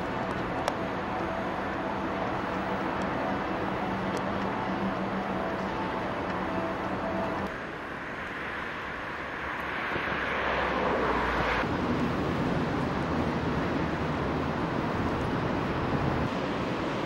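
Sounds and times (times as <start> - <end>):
car passing: 0.0 - 17.0
street traffic noise: 0.0 - 17.0.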